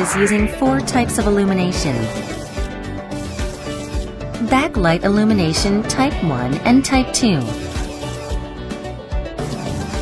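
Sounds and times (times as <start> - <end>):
background music with held chords: 0.2 - 10.0.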